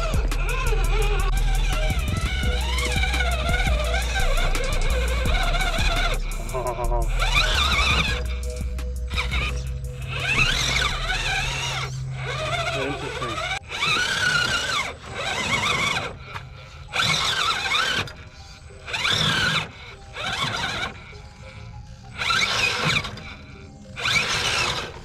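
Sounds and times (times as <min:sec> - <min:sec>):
background music: 0:00.0 - 0:25.0
toy truck electric motor whining: 0:00.0 - 0:25.0.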